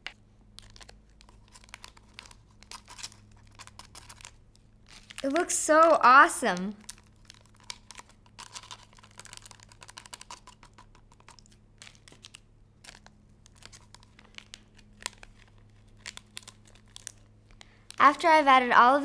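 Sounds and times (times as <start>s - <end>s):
powder sachets crinkling and tearing: 0.6s - 18.5s.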